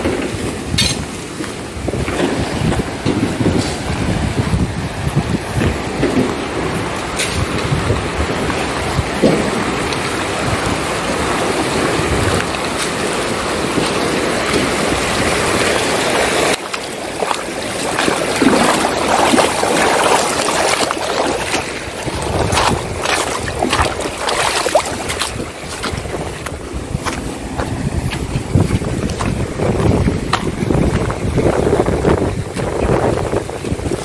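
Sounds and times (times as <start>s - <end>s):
steady rushing noise: 0.0s - 34.0s
stream water running: 0.0s - 34.0s
wind on microphone: 0.0s - 34.0s
feet splashing through stream: 0.3s - 34.0s.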